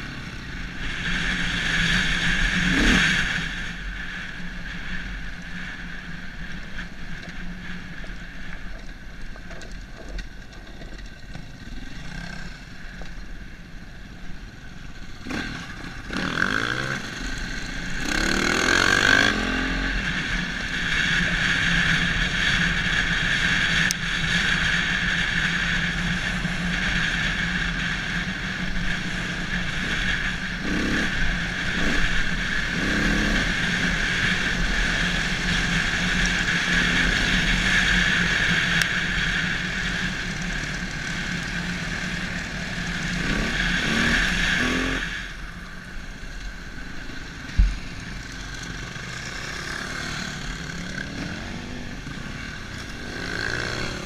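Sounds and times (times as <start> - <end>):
motorcycle engine revving: 0.0 - 6.1, 10.8 - 13.2, 14.8 - 54.0.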